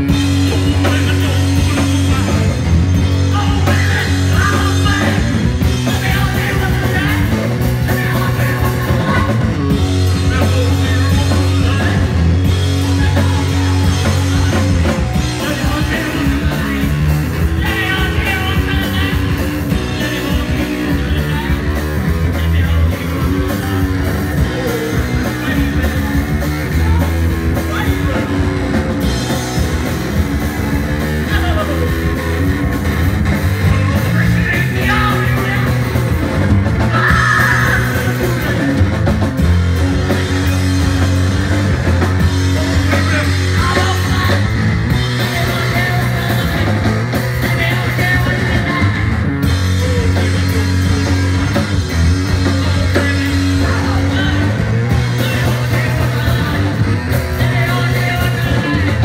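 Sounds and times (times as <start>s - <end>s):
drums: 0.0s - 59.0s
electric guitar: 0.0s - 59.0s
person singing: 0.0s - 59.0s.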